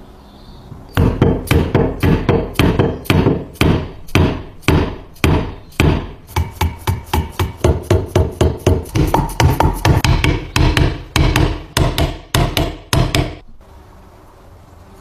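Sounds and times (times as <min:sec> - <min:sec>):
hammer blows on metal parts: 0:00.9 - 0:13.4.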